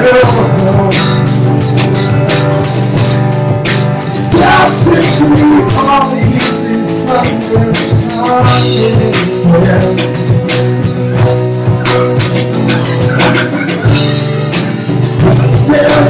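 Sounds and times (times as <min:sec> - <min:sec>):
man singing: 0:00.0 - 0:02.1, 0:04.1 - 0:14.2, 0:15.1 - 0:16.0
drum kit beat: 0:00.0 - 0:16.0
electric guitars: 0:00.0 - 0:16.0.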